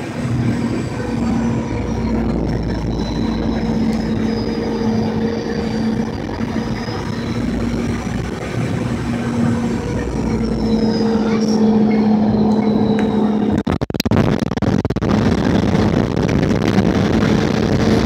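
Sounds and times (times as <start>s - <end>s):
jet engines and airflow in cabin: 0.0s - 18.0s.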